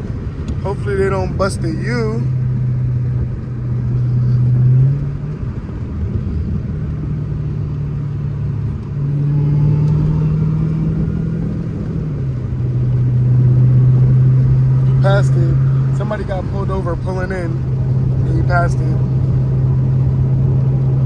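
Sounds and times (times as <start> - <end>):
car engine droning: 0.0 - 21.0
road rumble: 0.0 - 21.0.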